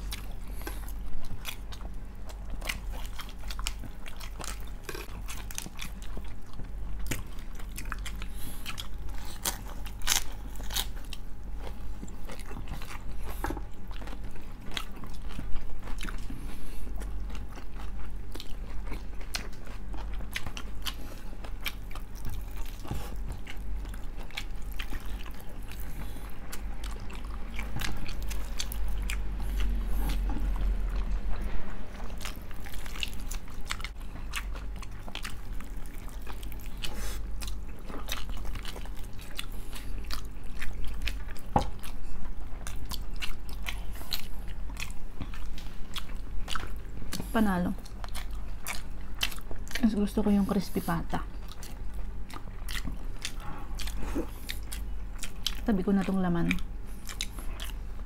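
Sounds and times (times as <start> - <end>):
person chewing crunchy food: 0.0 - 58.0
steady low hum: 0.0 - 58.0.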